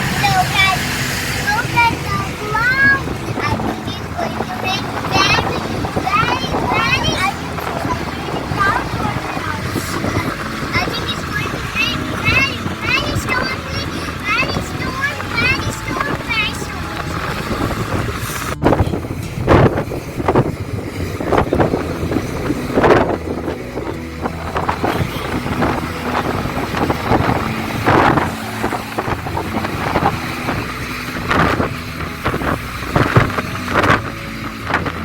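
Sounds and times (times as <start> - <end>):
car engine and road rumble: 0.0 - 35.0
wind buffeting microphone: 0.0 - 35.0.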